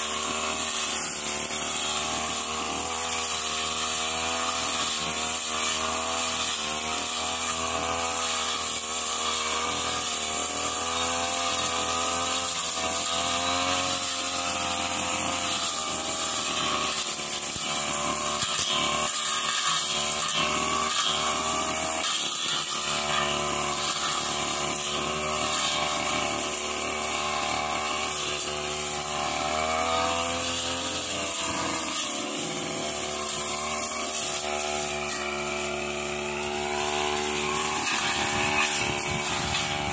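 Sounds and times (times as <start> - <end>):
blade cutting grass and undergrowth: 0.0 - 39.9
brush cutter engine running: 0.0 - 39.9.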